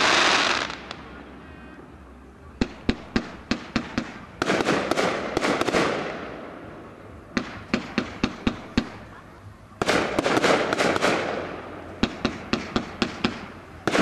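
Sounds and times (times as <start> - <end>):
fireworks sharp bangs: 0.0 - 1.3, 2.6 - 9.2, 9.8 - 14.0
fireworks crackling bursts: 0.0 - 1.8, 2.5 - 14.0.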